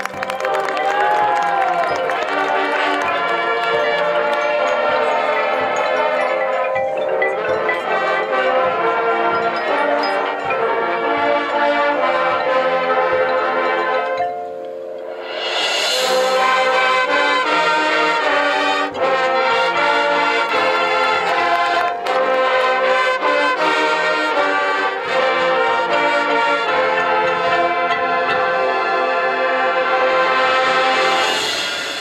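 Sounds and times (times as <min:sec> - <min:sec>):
marching band brass chords: 0:00.0 - 0:32.0
sharp percussion hits: 0:00.0 - 0:32.0.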